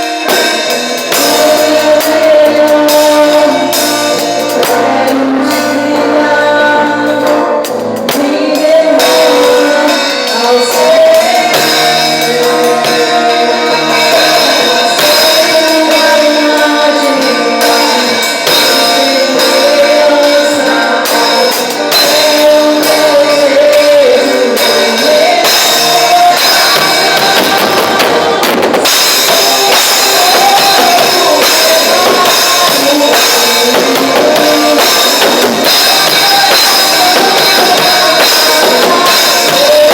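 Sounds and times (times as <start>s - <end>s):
person singing: 0.0s - 39.9s
worship band playing: 0.0s - 39.9s.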